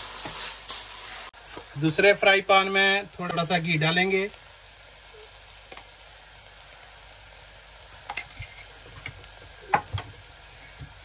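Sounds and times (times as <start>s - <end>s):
butter sizzling in frying pan: 0.0s - 11.0s.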